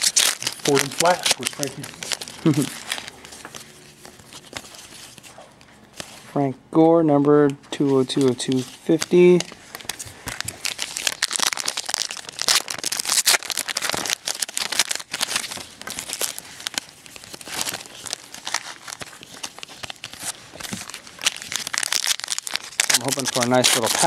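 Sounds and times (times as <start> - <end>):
foil wrappers crinkling and tearing: 0.0 - 6.2, 8.0 - 24.0
cards handled: 0.0 - 6.3, 7.2 - 24.0.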